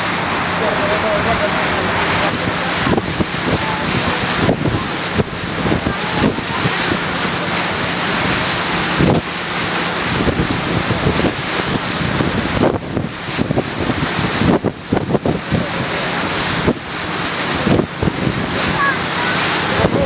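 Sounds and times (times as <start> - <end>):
boat engine hum: 0.0 - 20.0
water rushing past boat: 0.0 - 20.0
wind buffeting microphone: 0.0 - 20.0.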